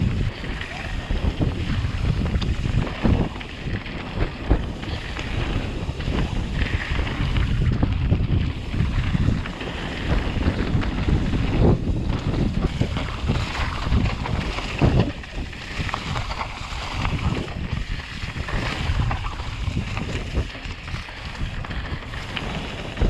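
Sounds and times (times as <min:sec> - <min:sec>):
bike knocking and rattling: 0:00.0 - 0:23.0
tyres rolling on dirt: 0:00.0 - 0:23.0
wind buffeting microphone: 0:00.0 - 0:23.0.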